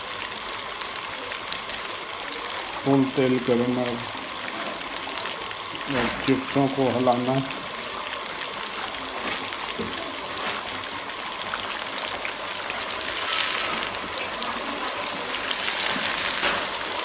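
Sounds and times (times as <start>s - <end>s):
chips sizzling in hot oil: 0.0s - 17.0s.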